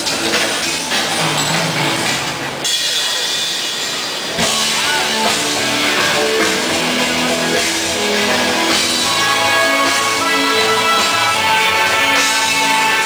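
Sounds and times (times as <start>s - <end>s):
bass guitar: 0.0s - 2.7s, 4.3s - 13.0s
drum kit: 0.0s - 13.0s
electric guitar: 0.0s - 13.0s.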